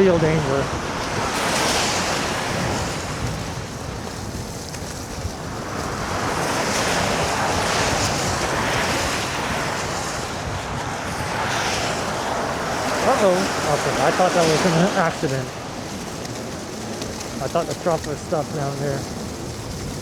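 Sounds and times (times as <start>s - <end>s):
wind rushing over microphone: 0.0s - 20.0s
tyres hissing through slush: 0.1s - 20.0s.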